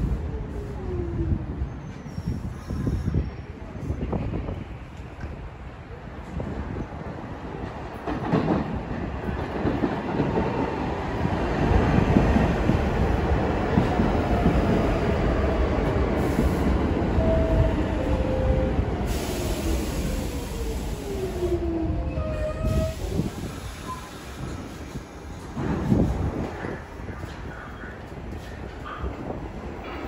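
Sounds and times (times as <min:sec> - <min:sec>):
subway train rumbling over rails: 0:00.0 - 0:30.0.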